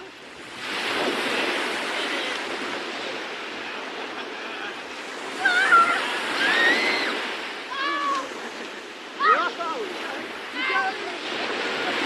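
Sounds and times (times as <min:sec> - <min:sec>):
sea surf washing on shore: 0:00.0 - 0:12.0.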